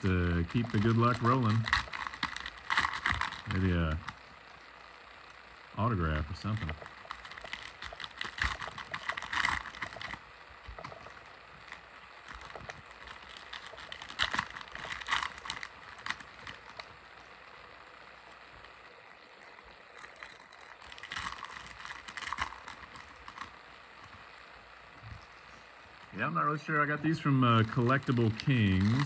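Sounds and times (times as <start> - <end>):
cards rustling: 0.0 - 4.3, 6.0 - 24.3, 27.0 - 29.0
cellophane wrapper crackling: 0.0 - 5.5, 6.3 - 26.2, 27.1 - 29.0.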